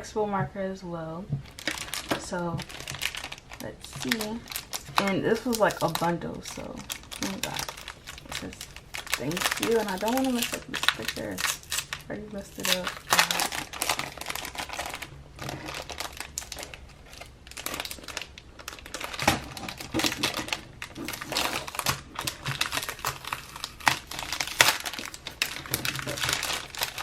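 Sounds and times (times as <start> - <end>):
packaging crinkling and rustling: 1.3 - 27.0.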